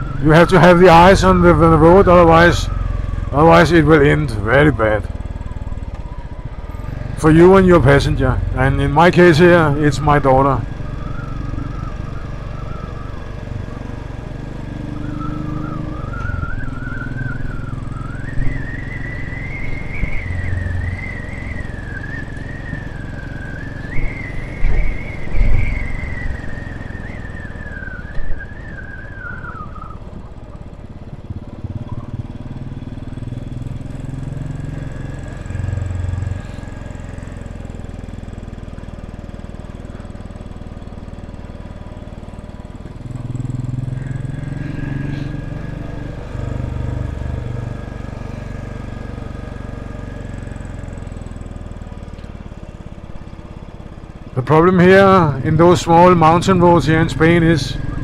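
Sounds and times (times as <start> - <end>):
high wandering whistling tone: 0.0 - 32.2, 32.9 - 58.0
motorcycle engine running: 0.0 - 58.0.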